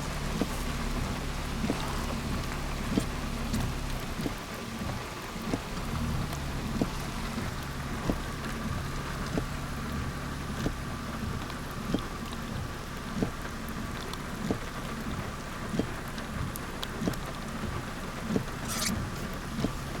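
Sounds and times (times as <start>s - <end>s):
low vehicle hum: 0.0s - 20.0s
rain-like noise: 0.0s - 20.0s.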